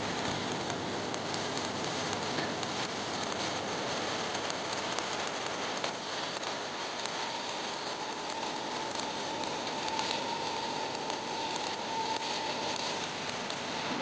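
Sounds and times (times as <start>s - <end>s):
arc welding crackle: 0.0s - 14.0s
faint steady whine: 0.0s - 14.0s.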